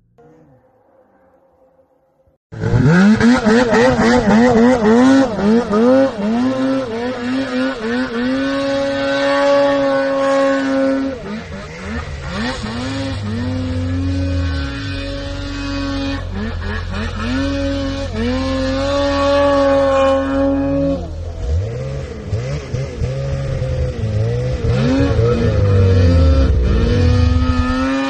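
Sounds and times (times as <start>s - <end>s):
snowmobile engine revving: 2.6s - 28.0s.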